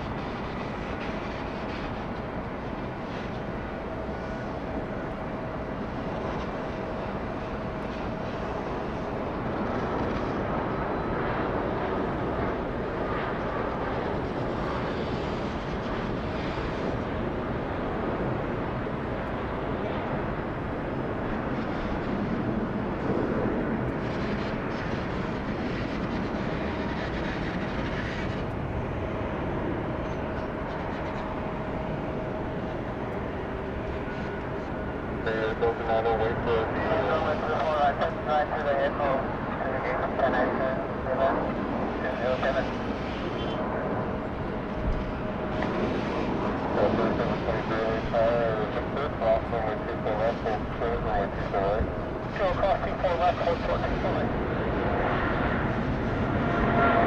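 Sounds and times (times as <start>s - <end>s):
faint steady whine: 0.0s - 57.0s
jet engine rumble: 0.0s - 57.0s.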